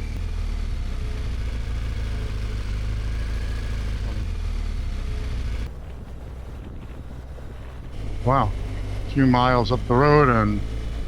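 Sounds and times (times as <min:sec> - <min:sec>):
motorcycle engine cruising: 0:00.0 - 0:11.0
road noise: 0:00.0 - 0:11.0.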